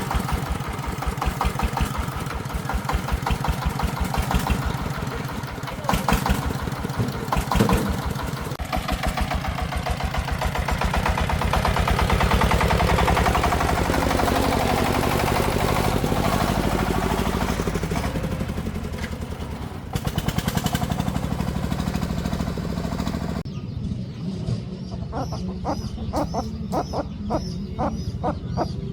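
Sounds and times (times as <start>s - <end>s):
single-cylinder diesel engine running: 0.0s - 28.9s.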